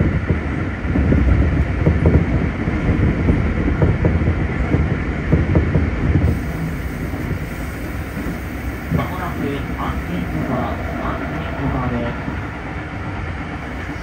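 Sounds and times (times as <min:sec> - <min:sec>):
train wheels rumbling with clacks: 0:00.0 - 0:14.0.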